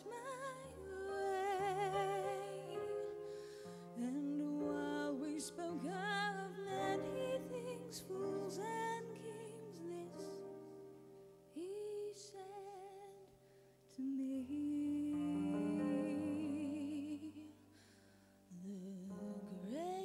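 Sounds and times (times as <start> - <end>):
woman singing ballad: 0.0 - 10.6, 11.6 - 13.3, 13.9 - 17.6, 18.5 - 20.0.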